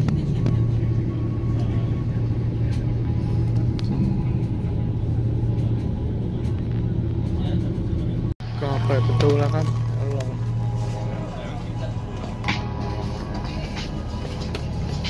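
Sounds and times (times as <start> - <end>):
ferry engines humming: 0.0 - 15.0.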